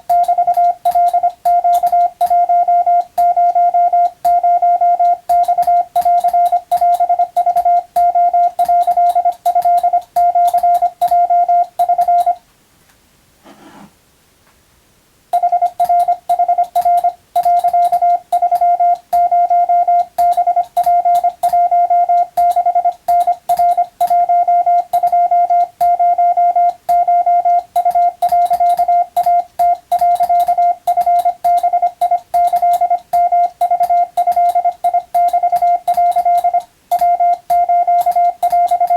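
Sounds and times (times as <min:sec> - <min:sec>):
morse code tone keying: 0:00.0 - 0:12.4, 0:15.4 - 0:38.9
keying clicks: 0:00.1 - 0:12.4, 0:15.4 - 0:38.9.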